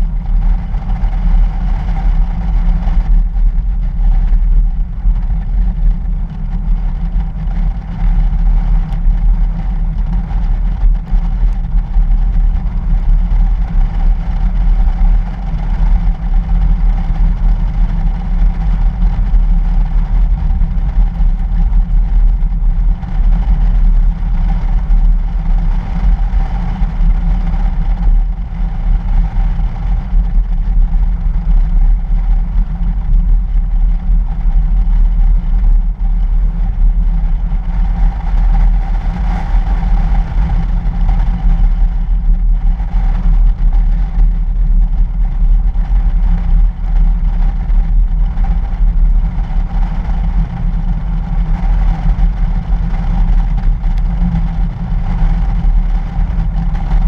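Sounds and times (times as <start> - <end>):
car engine running: 0.0 - 57.0
wind rumbling on microphone: 0.0 - 57.0.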